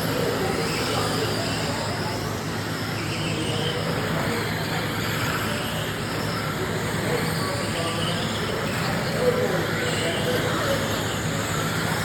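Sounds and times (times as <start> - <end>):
voices in background: 0.0 - 12.0.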